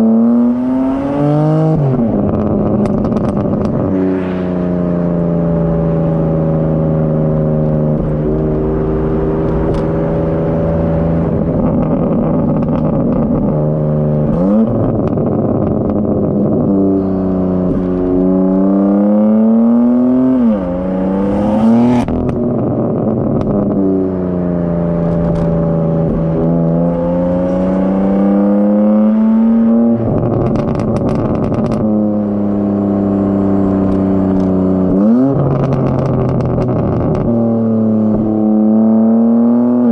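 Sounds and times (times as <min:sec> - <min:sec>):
car engine cruising and revving: 0:00.0 - 0:39.9
exhaust crack: 0:01.8 - 0:18.7, 0:20.4 - 0:28.6, 0:29.3 - 0:38.7.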